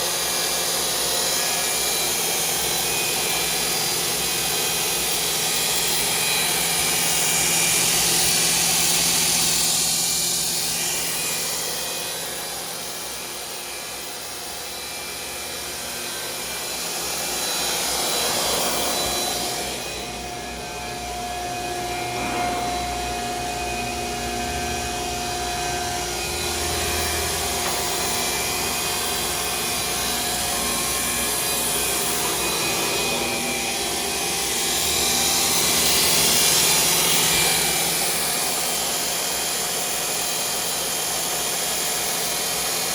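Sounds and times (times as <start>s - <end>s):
internal grinder running: 0.0s - 42.9s.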